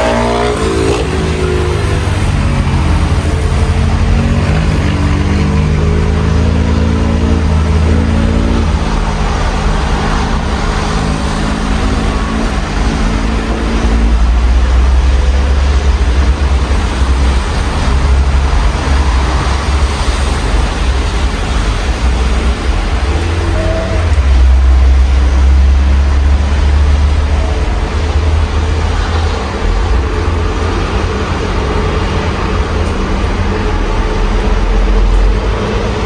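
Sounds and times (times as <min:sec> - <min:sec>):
car engine accelerating: 0:00.0 - 0:36.0
low rumble of passing traffic: 0:00.0 - 0:36.0
rain and wet tyres hissing: 0:00.0 - 0:36.0.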